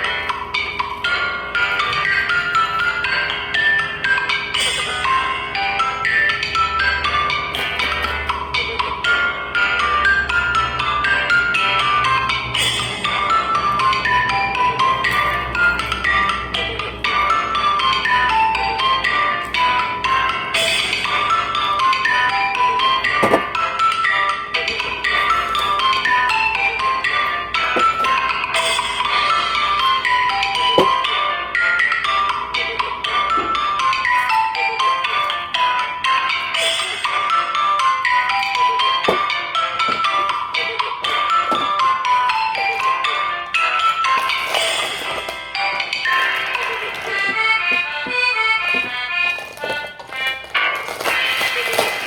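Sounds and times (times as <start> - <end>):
melody of struck notes: 0.0 - 49.8
playful marimba-like tune: 0.0 - 50.0.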